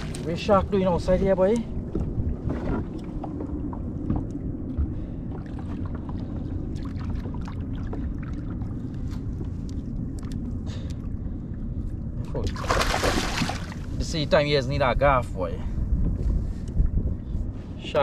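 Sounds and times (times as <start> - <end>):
water rumbling against hull: 0.0 - 18.0.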